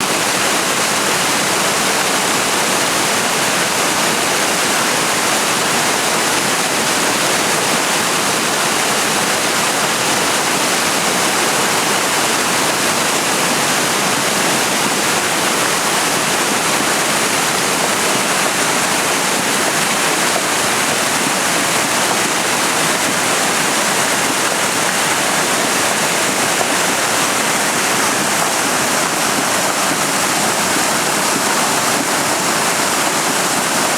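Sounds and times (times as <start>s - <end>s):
waterfall splashing and rushing: 0.0s - 33.9s.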